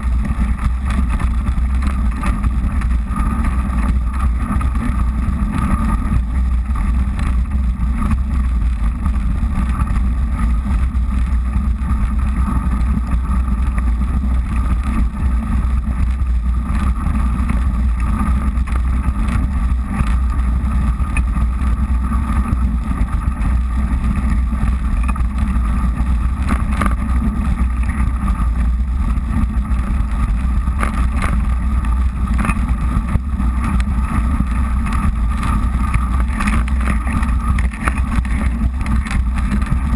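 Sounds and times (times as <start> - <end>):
bike tyres on slush: 0.0 - 39.9
wind on microphone: 0.0 - 39.9.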